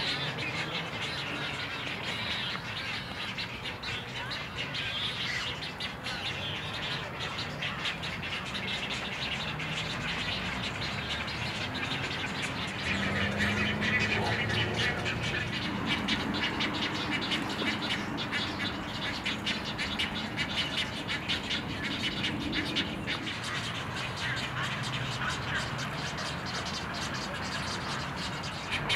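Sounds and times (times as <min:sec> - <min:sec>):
birds clicking and chirping: 0:00.0 - 0:28.9
lower-pitched bird calls: 0:00.0 - 0:28.9.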